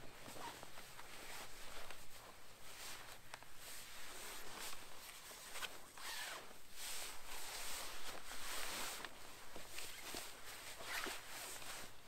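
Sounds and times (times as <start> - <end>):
tarp fabric rustling: 0.1 - 12.0.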